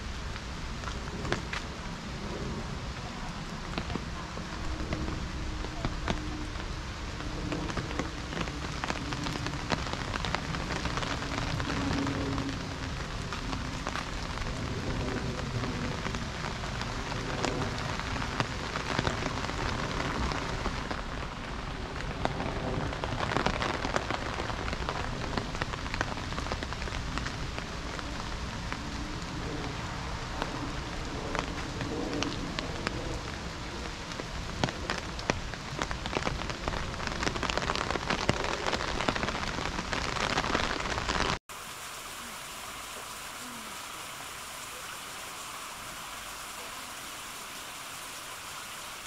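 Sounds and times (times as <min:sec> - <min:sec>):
rain drops striking close: 0:00.0 - 0:49.0.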